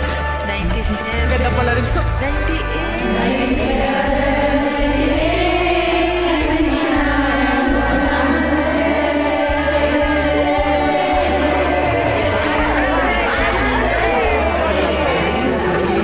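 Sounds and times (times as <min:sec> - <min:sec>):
karaoke backing track: 0:00.0 - 0:16.0
group singing: 0:03.0 - 0:16.0.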